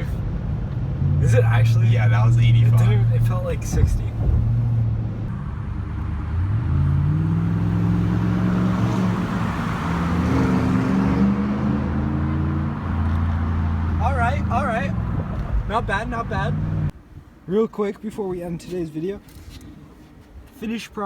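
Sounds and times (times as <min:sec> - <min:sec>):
loud vehicle exhaust droning: 0:00.0 - 0:16.9.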